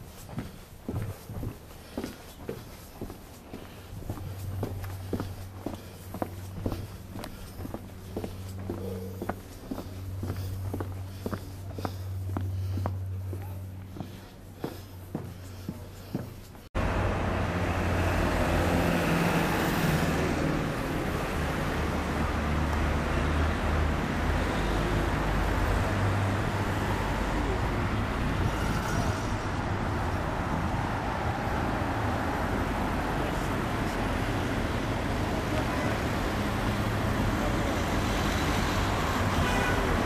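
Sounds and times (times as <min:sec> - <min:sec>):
cars passing on street: 0:00.0 - 0:40.0.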